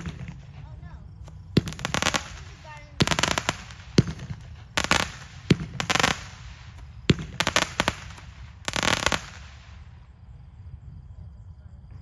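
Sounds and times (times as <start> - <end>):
firework crackling bursts: 0.0 - 10.0
firework sharp reports: 0.0 - 10.2.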